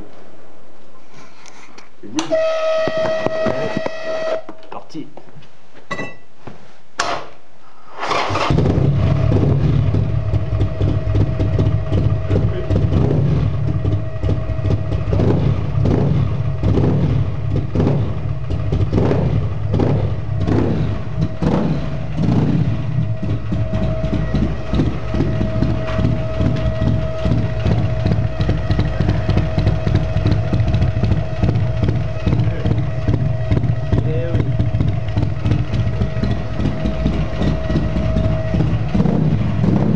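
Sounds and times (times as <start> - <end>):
motorcycle engine starting and revving: 7.9 - 39.9.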